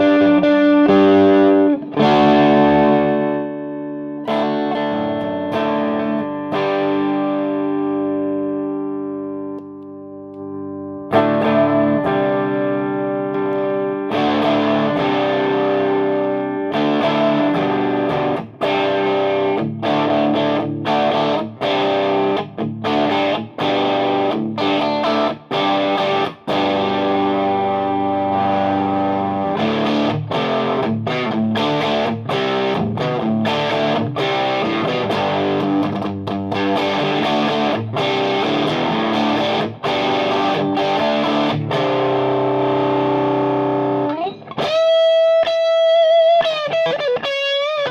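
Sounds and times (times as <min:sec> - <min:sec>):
distorted electric guitar strumming: 0:00.0 - 0:47.9.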